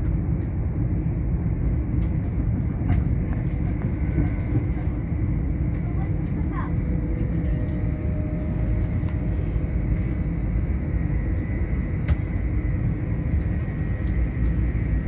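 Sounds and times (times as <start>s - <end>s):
train rumbling from inside carriage: 0.0s - 15.0s.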